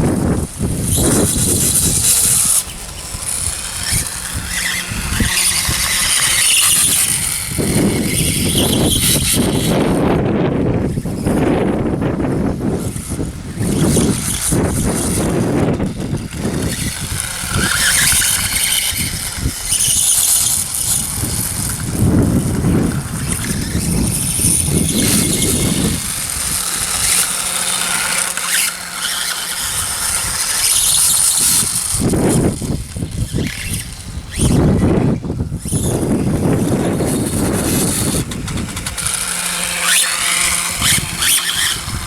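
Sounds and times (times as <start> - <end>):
electric motor whine: 0.0 - 42.0
rough rumble: 0.0 - 42.0.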